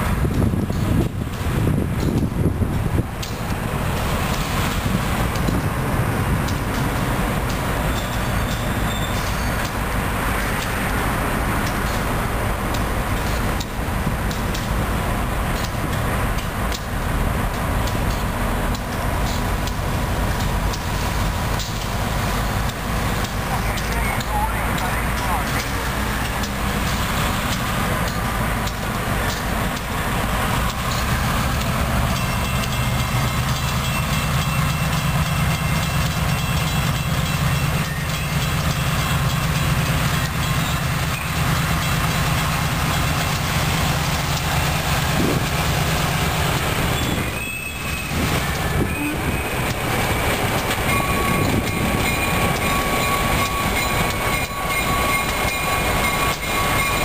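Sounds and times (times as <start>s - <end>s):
diesel locomotive engines droning: 0.0s - 57.0s.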